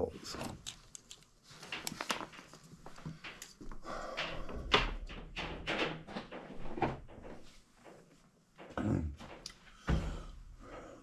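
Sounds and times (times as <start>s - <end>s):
handling knocks and clicks: 0.4s - 9.6s.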